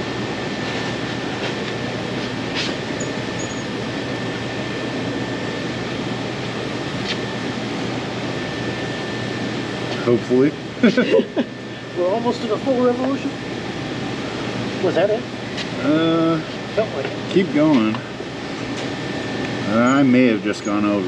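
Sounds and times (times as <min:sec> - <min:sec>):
faint high whine: 0:00.0 - 0:17.6
fan-like rushing noise: 0:00.0 - 0:21.0.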